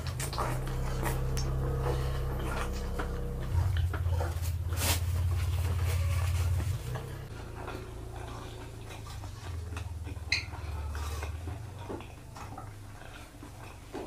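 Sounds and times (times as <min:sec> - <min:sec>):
chewing with mouth full: 0:00.0 - 0:14.0.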